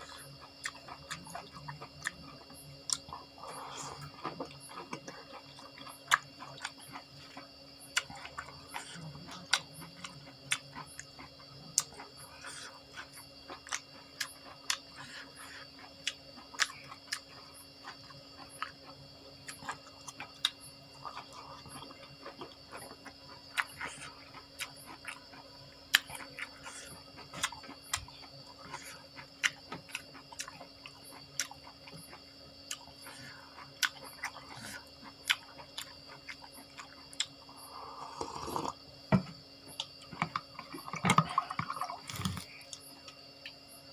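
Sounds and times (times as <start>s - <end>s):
crunchy chewing of food: 0.0s - 43.9s
faint steady hum: 0.0s - 43.9s.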